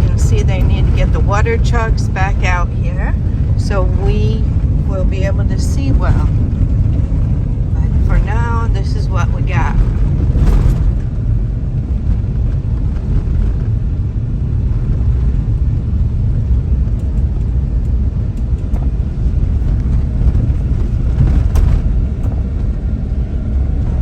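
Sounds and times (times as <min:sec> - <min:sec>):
tyre and engine rumble: 0:00.0 - 0:24.0.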